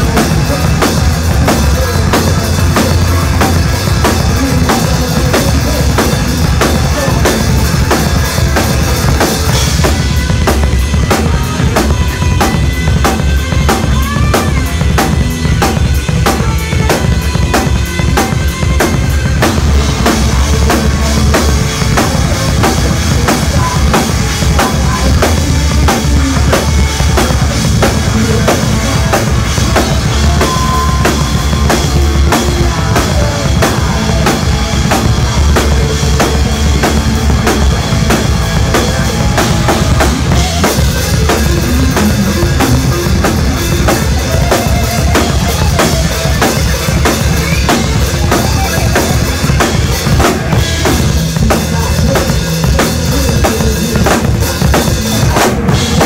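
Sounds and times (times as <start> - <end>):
live band playing heavy music: 0.0 - 56.0.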